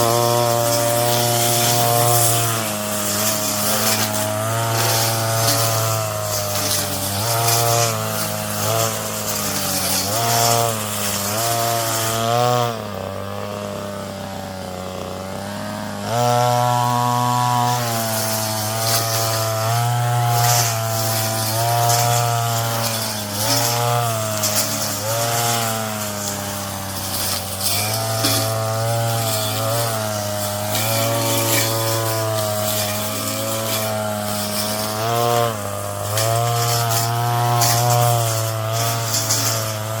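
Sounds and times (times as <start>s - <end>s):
brush cutter engine: 0.0s - 40.0s.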